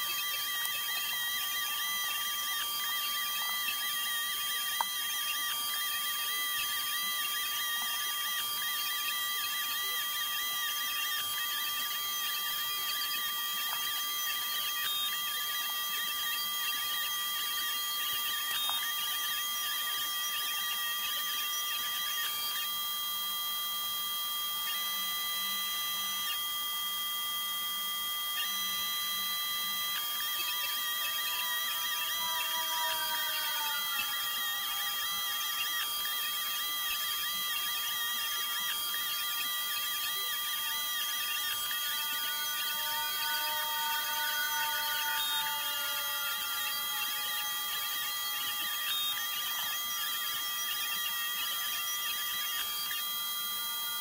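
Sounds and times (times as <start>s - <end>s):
stepper motors whining: 0.0s - 23.6s, 28.4s - 54.0s.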